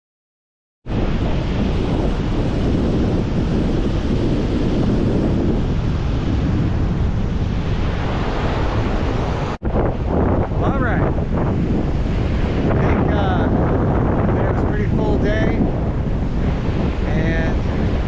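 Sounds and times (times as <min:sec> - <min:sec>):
wind blowing across microphone: 0:00.8 - 0:18.0.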